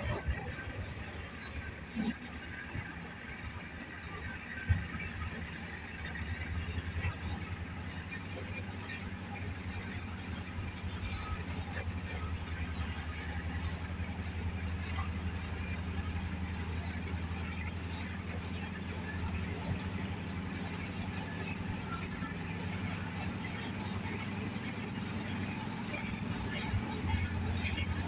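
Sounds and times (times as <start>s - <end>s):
bulldozer diesel engine droning: 0.0s - 28.0s.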